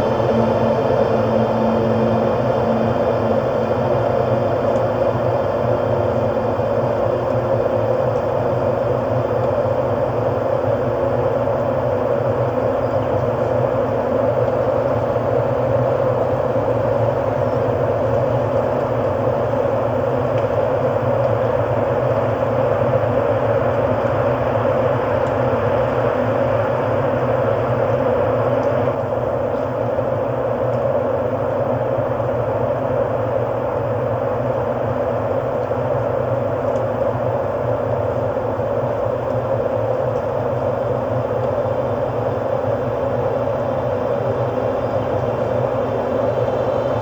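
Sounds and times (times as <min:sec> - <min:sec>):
ambient electronic drone: 0:00.0 - 0:47.0.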